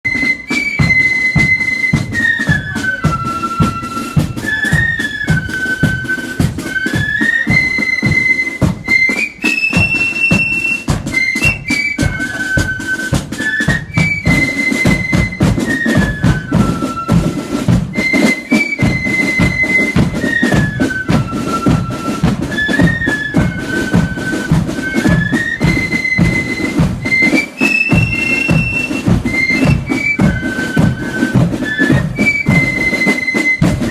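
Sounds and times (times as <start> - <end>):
flute melody: 0.0 - 33.9
marching drum beat: 0.1 - 33.9.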